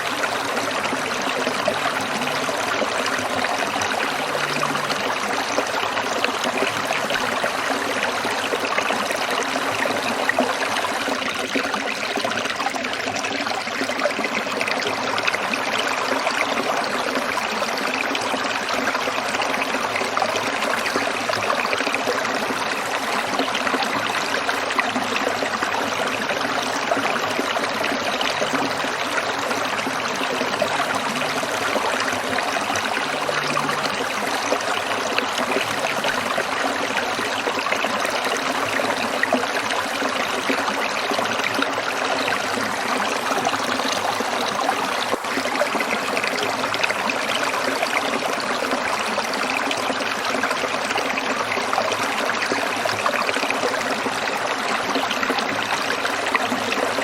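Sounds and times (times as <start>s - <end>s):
stream burbling over rocks: 0.0s - 57.0s.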